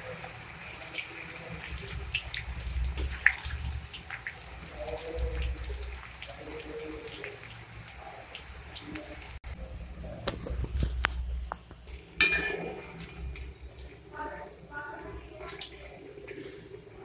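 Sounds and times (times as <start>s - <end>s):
pastry sizzling in hot oil: 0.0s - 17.0s.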